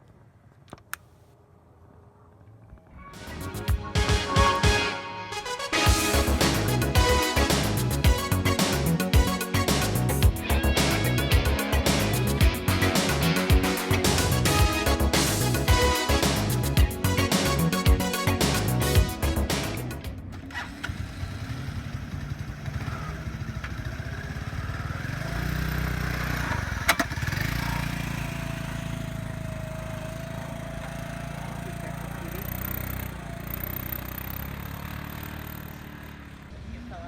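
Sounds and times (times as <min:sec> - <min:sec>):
scooter engine running: 0:05.9 - 0:37.0.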